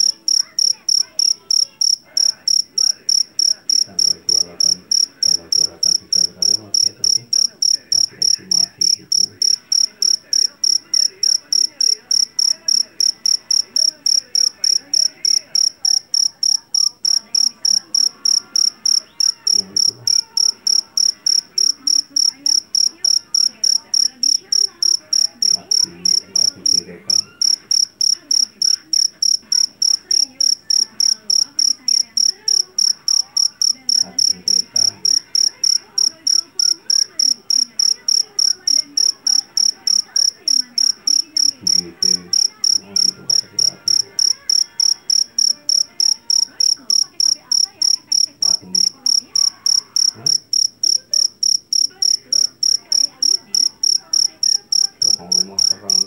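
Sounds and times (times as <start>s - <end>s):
field cricket chirping: 0.0s - 56.0s.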